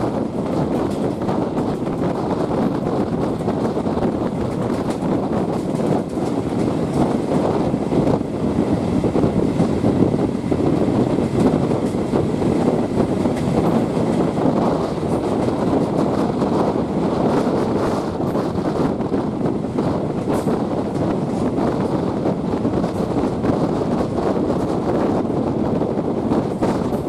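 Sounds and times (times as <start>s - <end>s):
train rumbling along track: 0.0s - 27.0s
wind on microphone: 0.0s - 27.0s.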